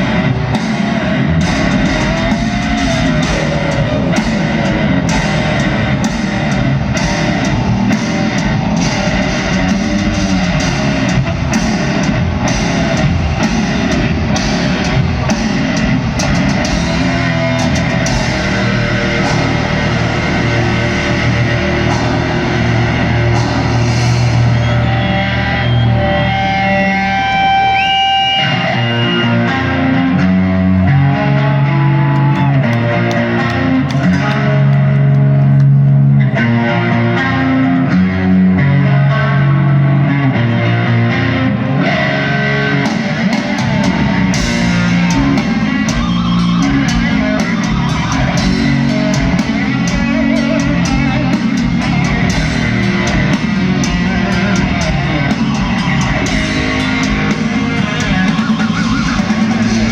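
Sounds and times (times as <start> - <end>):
bass guitar: 0.0 - 59.9
distorted electric guitar: 0.0 - 59.9
drums: 0.0 - 59.9.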